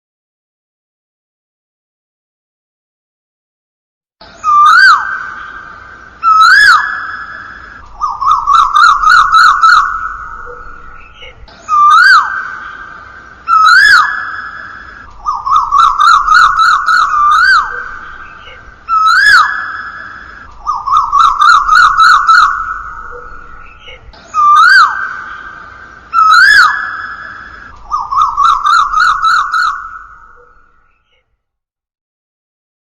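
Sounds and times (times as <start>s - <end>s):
koel bird calls: 4.4s - 31.2s.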